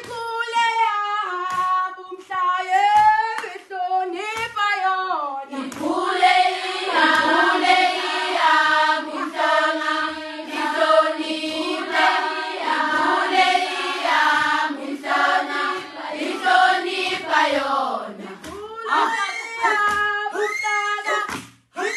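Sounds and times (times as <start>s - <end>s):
girls singing together: 0.0s - 20.5s.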